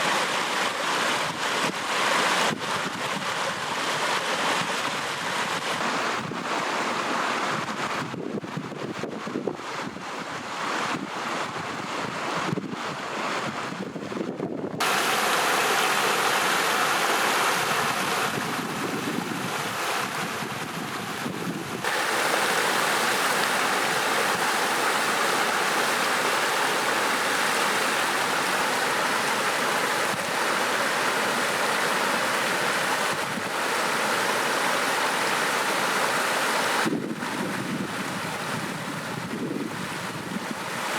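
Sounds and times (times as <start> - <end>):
stream flowing over stones: 0.0 - 13.5, 14.8 - 40.9.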